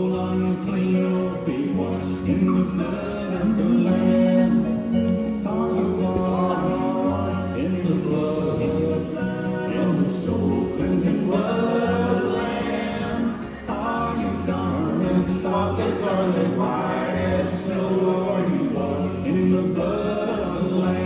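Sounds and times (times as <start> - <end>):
choir singing gospel song: 0.0 - 21.0
steady bass accompaniment: 0.0 - 21.0.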